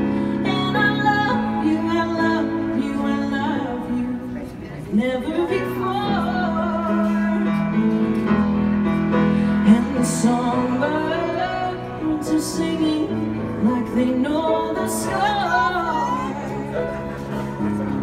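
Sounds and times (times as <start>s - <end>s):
woman singing a slow ballad: 0.0s - 8.4s, 9.5s - 18.0s
grand piano: 0.0s - 18.0s.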